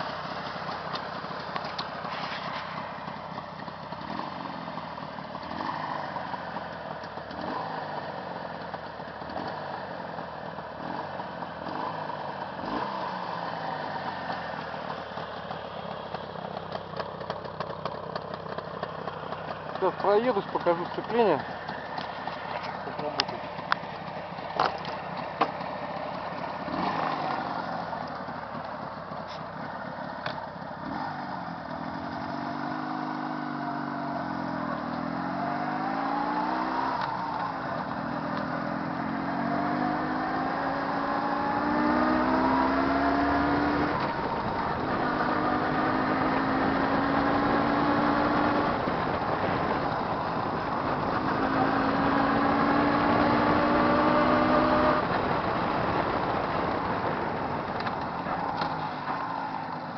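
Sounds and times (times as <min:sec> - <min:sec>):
two-stroke motorcycle engine accelerating: 0:00.0 - 0:59.9.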